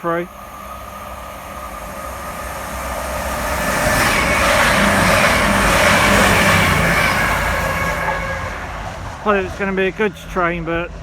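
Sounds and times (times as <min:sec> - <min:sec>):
train passing through: 0:00.0 - 0:11.0.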